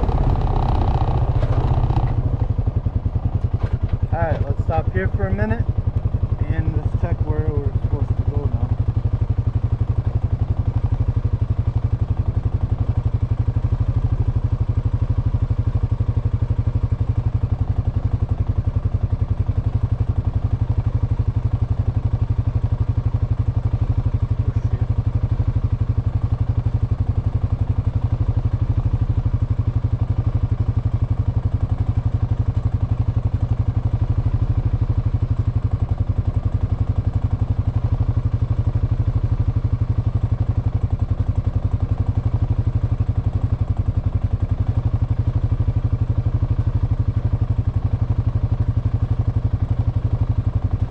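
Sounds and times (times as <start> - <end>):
atv engine idling: 0.0 - 50.9.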